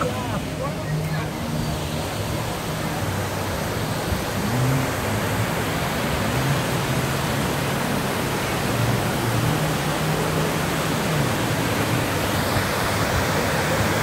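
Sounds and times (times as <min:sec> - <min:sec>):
waterfall rushing into pool: 0:00.0 - 0:14.0.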